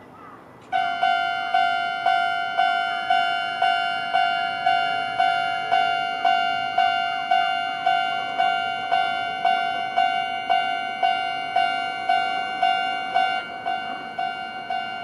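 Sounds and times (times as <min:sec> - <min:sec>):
level crossing bell dinging: 0:00.8 - 0:15.0.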